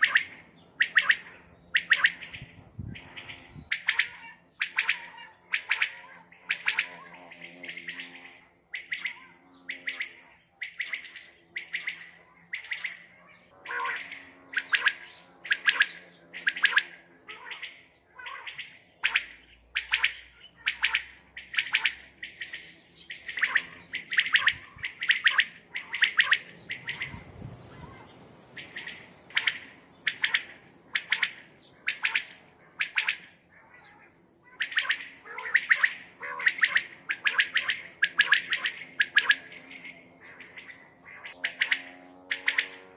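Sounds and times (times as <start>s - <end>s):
quail calling: 0.0s - 42.9s.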